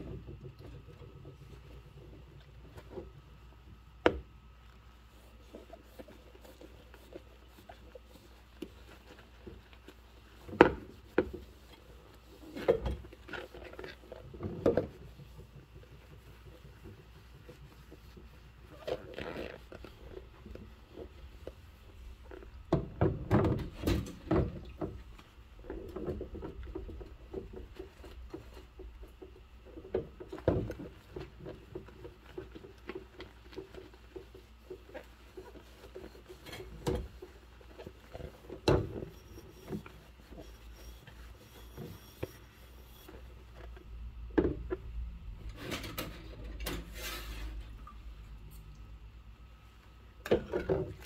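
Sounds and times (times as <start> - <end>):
sponge scrubbing in soapy water: 0.7 - 44.2.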